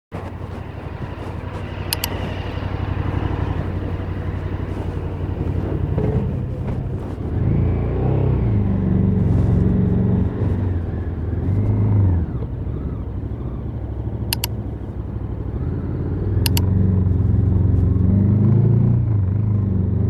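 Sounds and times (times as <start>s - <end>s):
motorcycle engine running: 0.1s - 20.0s.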